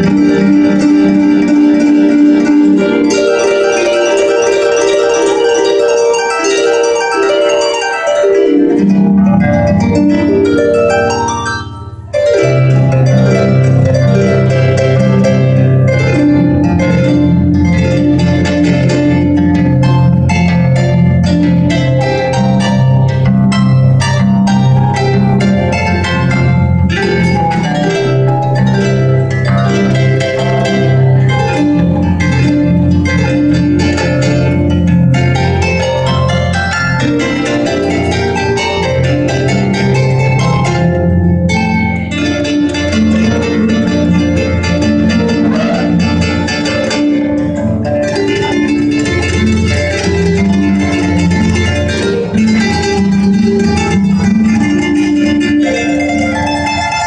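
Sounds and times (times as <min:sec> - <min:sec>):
harp playing fast piece: 0:00.0 - 0:57.0.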